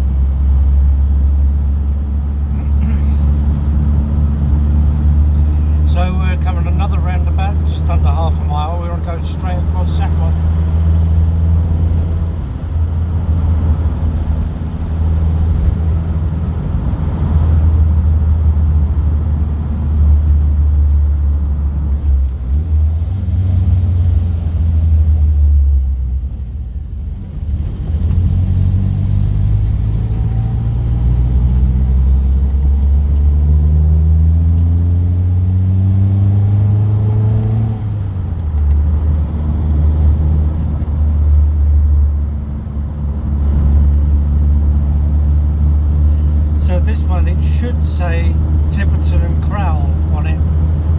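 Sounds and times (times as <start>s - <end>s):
car engine drone from inside: 0.0s - 50.9s.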